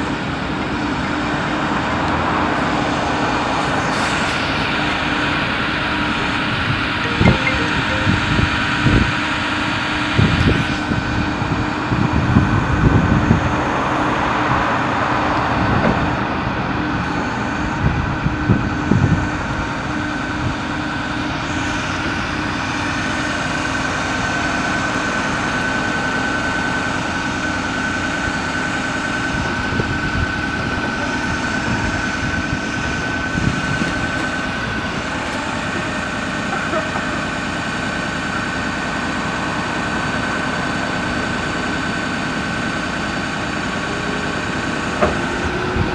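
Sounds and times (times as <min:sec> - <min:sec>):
diesel engine running: 0:00.0 - 0:45.9
hydraulic whine: 0:00.0 - 0:45.9.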